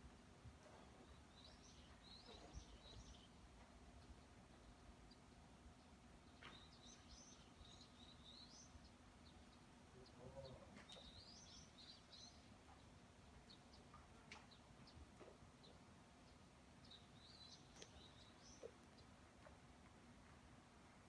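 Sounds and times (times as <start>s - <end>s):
faint birdsong chirps: 0.0s - 21.0s
low outdoor background hum: 0.0s - 21.0s.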